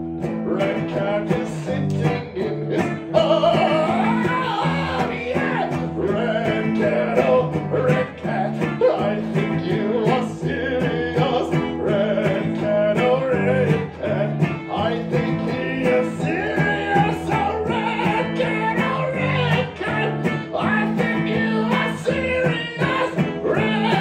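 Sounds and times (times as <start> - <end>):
strummed electric guitar: 0.0 - 24.0
man singing into a microphone: 0.3 - 24.0.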